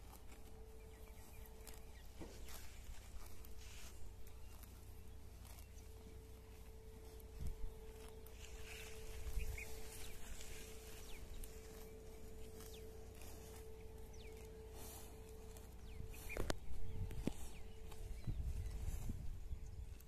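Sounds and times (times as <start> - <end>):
cattle tearing and munching plants: 0.0 - 19.1
faint steady hum: 0.0 - 20.0.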